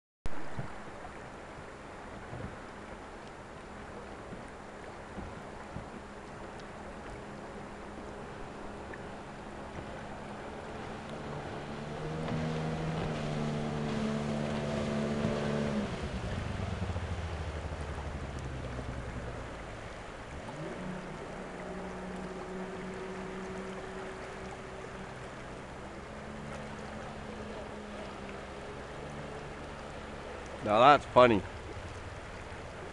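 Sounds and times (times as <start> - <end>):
motorboat engine running: 0.3 - 32.9
water wash: 0.3 - 32.9.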